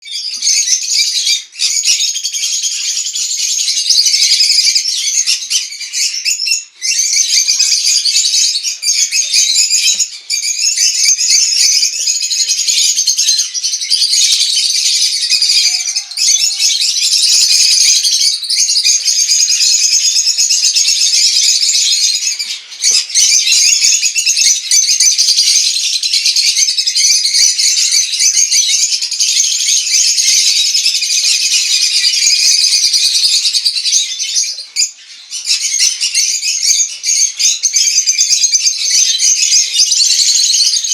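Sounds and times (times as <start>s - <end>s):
parrots chattering and calling: 0.0s - 40.9s.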